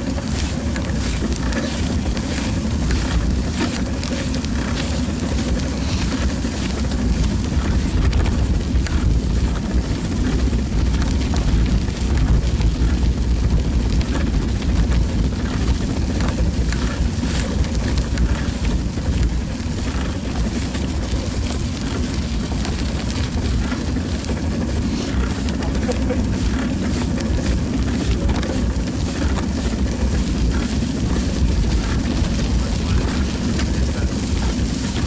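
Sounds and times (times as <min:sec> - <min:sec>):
bicycle tyres on icy path: 0:00.0 - 0:35.0
small clicks and rattles: 0:00.0 - 0:35.0
wind on microphone: 0:00.0 - 0:35.0.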